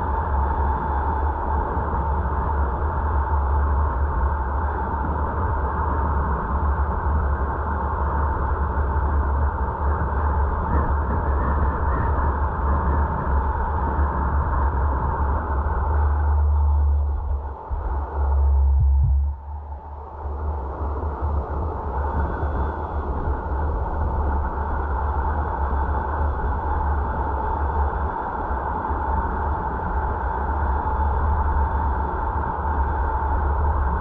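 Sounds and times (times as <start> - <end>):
car road and wind noise: 0.0 - 34.0.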